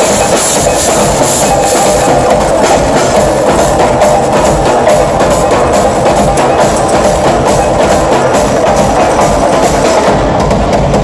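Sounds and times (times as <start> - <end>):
percussion ensemble playing: 0.0 - 11.0.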